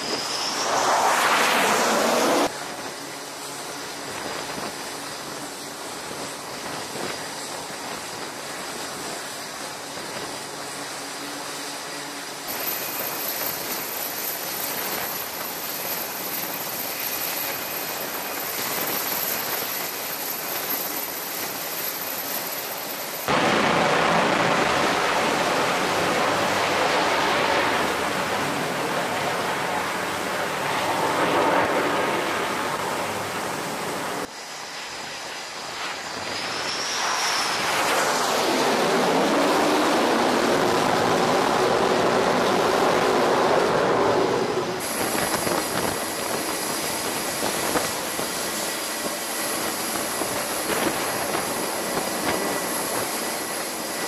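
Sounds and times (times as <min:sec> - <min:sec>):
jet engine noise: 0:00.0 - 0:54.0.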